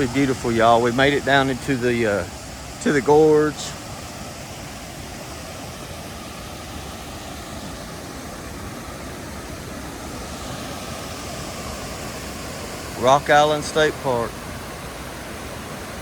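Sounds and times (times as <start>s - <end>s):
waterfall and river rushing: 0.0s - 16.0s.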